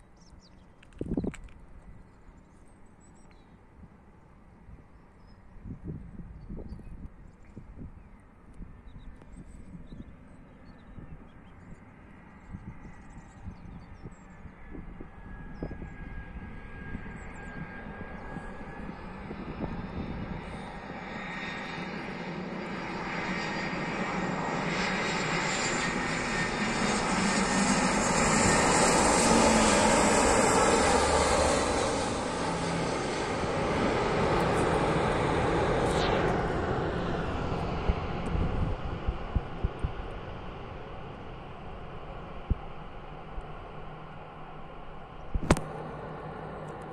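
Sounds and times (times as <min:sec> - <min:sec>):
jet airliner roar: 0:05.6 - 0:46.9.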